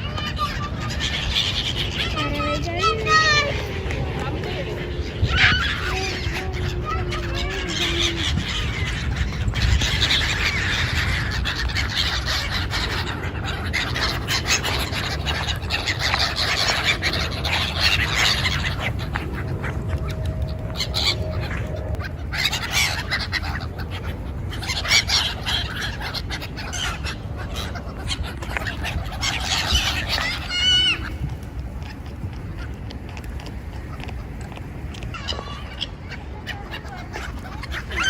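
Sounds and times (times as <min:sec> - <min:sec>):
gulls calling: 0:00.0 - 0:38.0
steady low rumble: 0:00.0 - 0:38.0.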